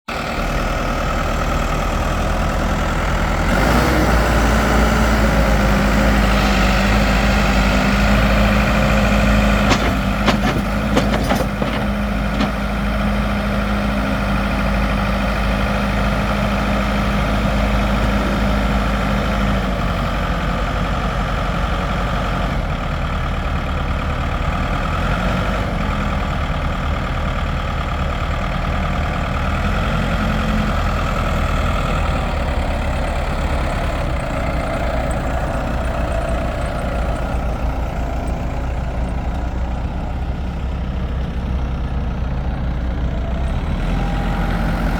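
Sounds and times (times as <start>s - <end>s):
backhoe diesel engine running: 0.1s - 44.9s.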